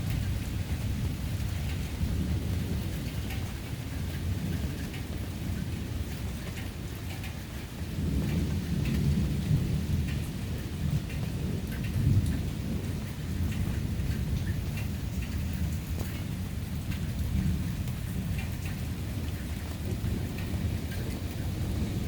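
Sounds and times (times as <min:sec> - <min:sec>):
low rumble of thunder: 0:00.0 - 0:22.0
rain falling: 0:00.0 - 0:22.0
raindrops ticking: 0:00.0 - 0:22.0.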